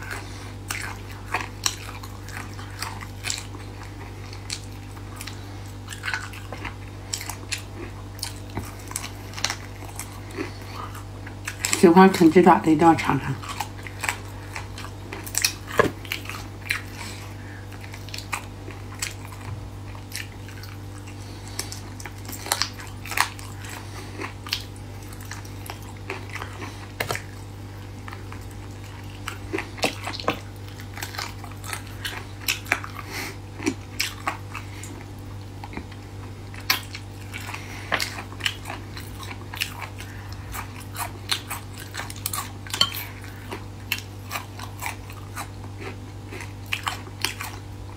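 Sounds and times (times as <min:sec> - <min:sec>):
person chewing crunchy food: 0:00.0 - 0:47.9
steady low hum: 0:00.0 - 0:47.9.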